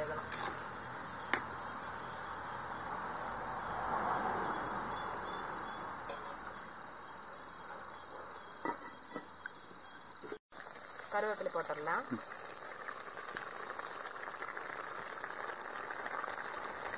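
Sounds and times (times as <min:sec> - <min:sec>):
crickets trilling: 0:00.0 - 0:16.9.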